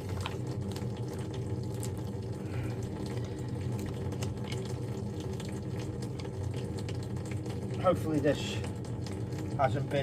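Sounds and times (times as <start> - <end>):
steady low hum: 0.0 - 10.0
water running from a hose: 0.0 - 10.0.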